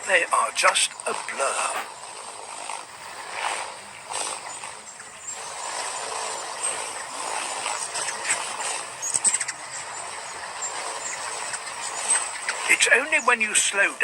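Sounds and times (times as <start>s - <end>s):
hummingbird wings whirring: 1.2s - 13.8s.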